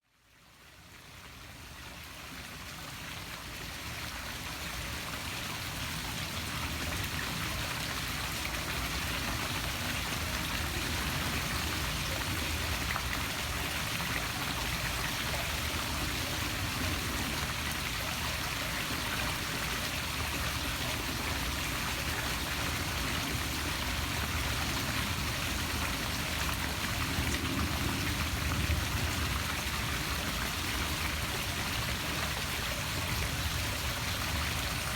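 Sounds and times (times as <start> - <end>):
waterfall splashing into pool: 1.8 - 34.9.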